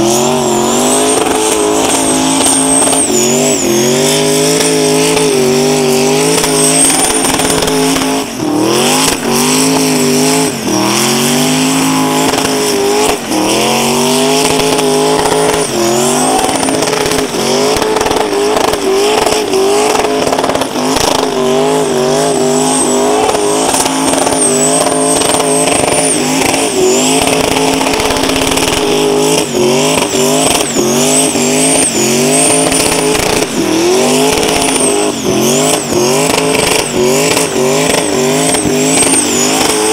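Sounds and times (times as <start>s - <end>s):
car engine revving: 0.0s - 39.9s
tyres squealing: 0.0s - 39.9s.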